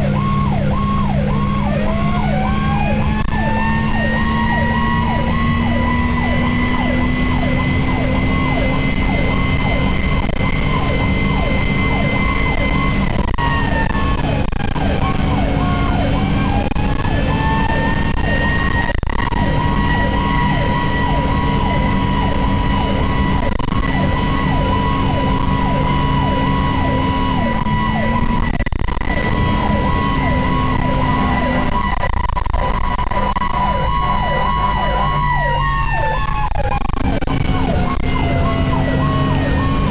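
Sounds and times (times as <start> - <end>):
engine and road noise: 0.0 - 39.9
siren wail: 0.0 - 39.9
siren yelp: 0.0 - 39.9.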